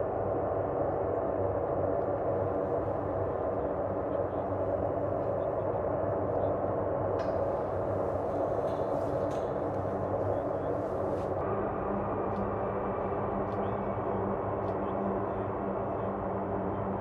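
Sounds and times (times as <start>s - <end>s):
turboprop aircraft engines droning: 0.0s - 17.0s.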